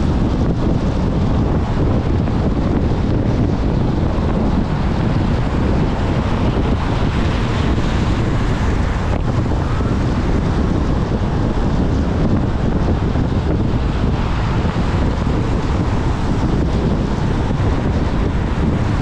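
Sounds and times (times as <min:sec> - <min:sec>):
tyre and wind noise on wet road: 0:00.0 - 0:19.0.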